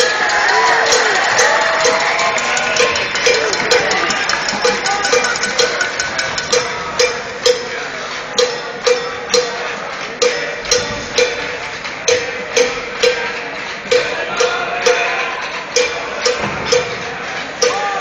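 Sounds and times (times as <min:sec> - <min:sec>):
cowbell clanking: 0:00.0 - 0:18.0
crowd noise: 0:00.0 - 0:18.0.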